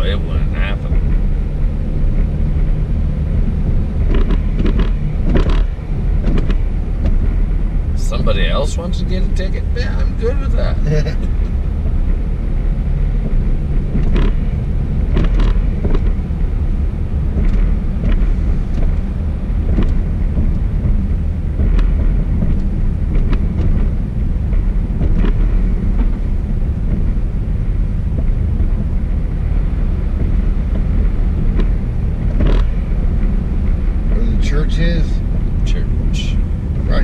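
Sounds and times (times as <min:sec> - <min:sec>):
car driving road rumble: 0:00.0 - 0:37.0.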